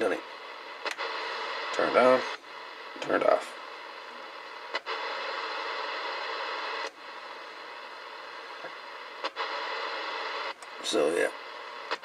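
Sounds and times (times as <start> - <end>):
radio receiver hiss: 0.0 - 12.0.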